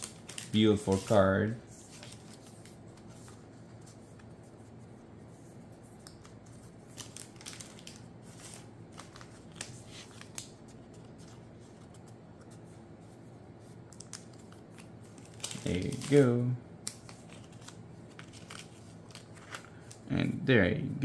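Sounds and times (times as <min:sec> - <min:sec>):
card rustling: 0:00.0 - 0:20.1.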